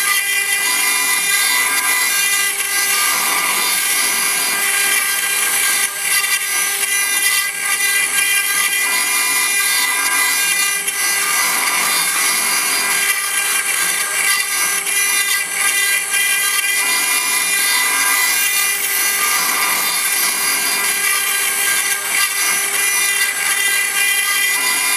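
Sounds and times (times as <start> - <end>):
cutting bit grinding stone: 0.0 - 24.9
router spindle whining: 0.0 - 24.9.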